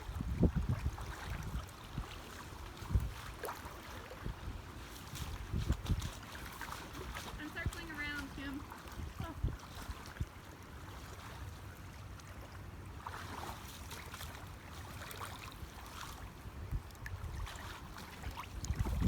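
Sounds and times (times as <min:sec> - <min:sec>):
water sloshing from wading: 0:00.0 - 0:19.0.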